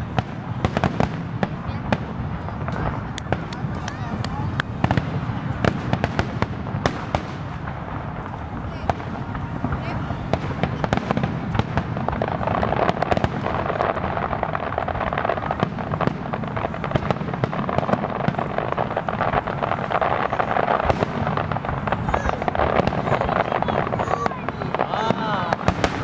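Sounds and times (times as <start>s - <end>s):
fireworks bangs and cracks: 0.0s - 26.0s.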